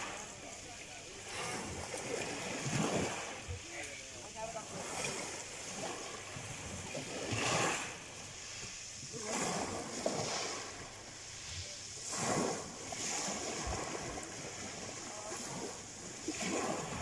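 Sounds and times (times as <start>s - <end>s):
waves washing over pebble shore: 0.0s - 17.0s.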